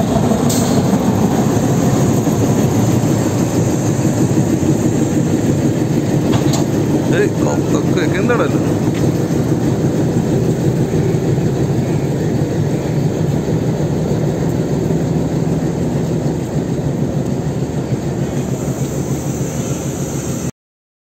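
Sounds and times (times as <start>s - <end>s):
train wheels rumbling on rail: 0.0s - 20.5s.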